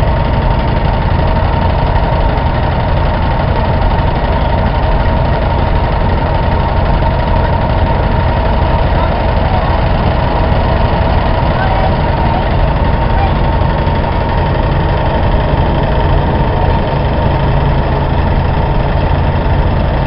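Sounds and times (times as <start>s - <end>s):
engine rumble: 0.0s - 20.0s
threshing machine humming: 0.0s - 20.0s.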